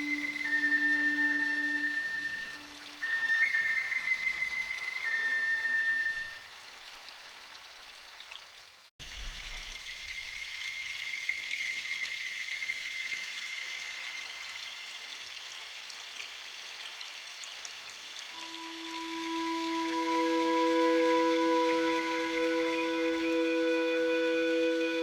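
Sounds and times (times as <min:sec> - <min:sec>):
rain falling in forest: 0:00.0 - 0:25.0.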